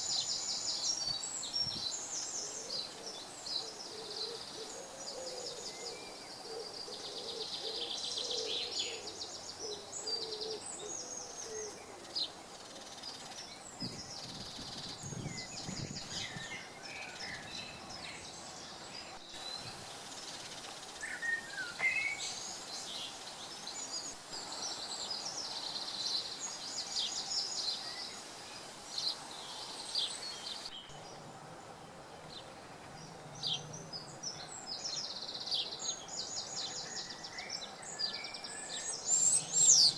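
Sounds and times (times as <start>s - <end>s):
faint background hiss: 0.0s - 39.9s
small birds chirping and trilling: 0.0s - 39.9s.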